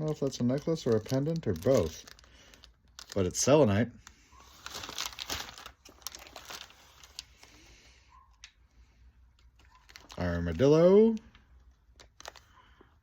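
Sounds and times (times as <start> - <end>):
packaging crinkling: 0.0 - 8.6, 9.2 - 13.0.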